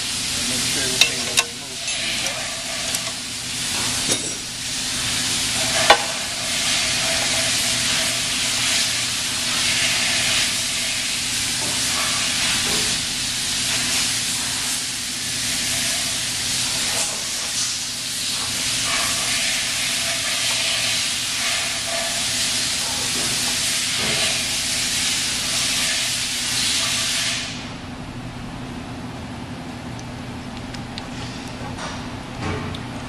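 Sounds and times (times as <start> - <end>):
machine shop background hiss: 0.0 - 27.9.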